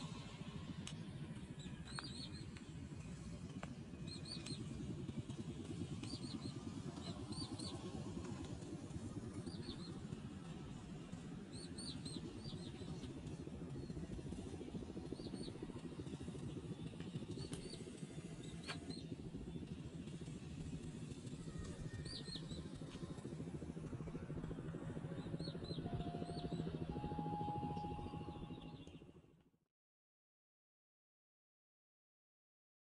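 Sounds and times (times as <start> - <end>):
steady low rumble: 0.0 - 29.3.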